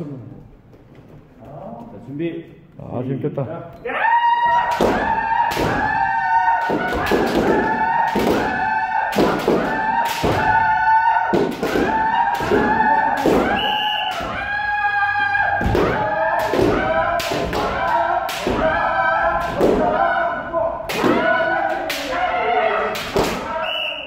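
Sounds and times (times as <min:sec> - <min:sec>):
people shouting high-pitched yells: 0:03.8 - 0:24.0.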